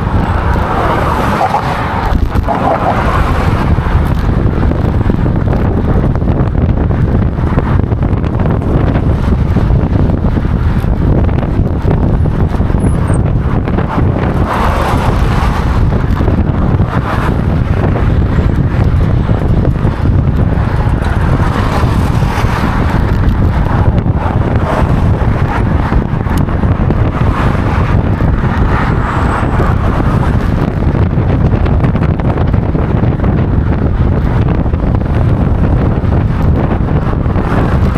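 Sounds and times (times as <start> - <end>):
strong wind buffeting microphone: 0.0 - 37.9.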